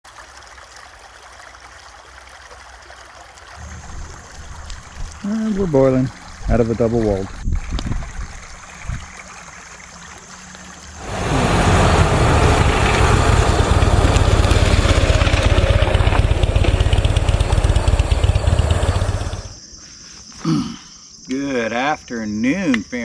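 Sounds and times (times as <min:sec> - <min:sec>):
water boiling and bubbling: 0:00.0 - 0:19.6.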